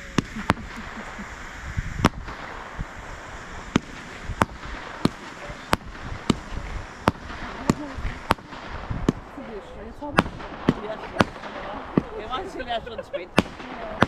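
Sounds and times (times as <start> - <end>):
firework bangs: 0.0 - 14.0
steady hiss: 0.0 - 14.0.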